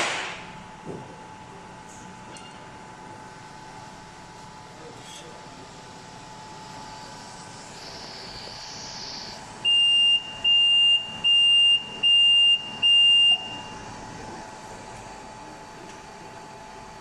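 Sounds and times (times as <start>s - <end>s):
blower hum: 0.0s - 17.0s.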